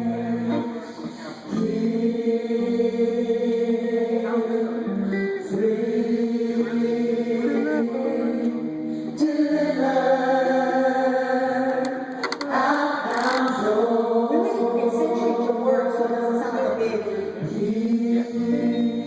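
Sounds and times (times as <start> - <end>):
vocal group singing in harmony: 0.0 - 19.0.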